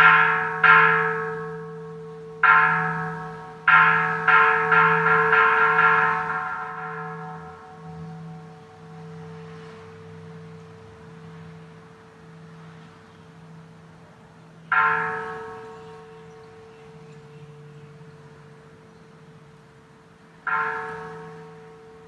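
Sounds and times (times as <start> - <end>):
temple bell ringing: 0.0 - 22.0.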